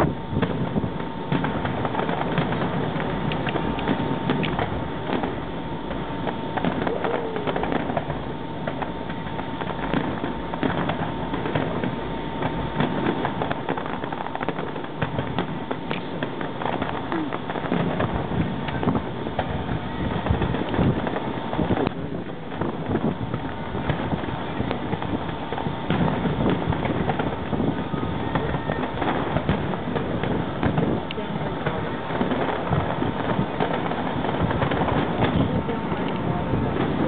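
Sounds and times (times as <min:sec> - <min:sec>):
distant fireworks popping and banging: 0:00.0 - 0:37.0
steady background noise: 0:00.0 - 0:37.0.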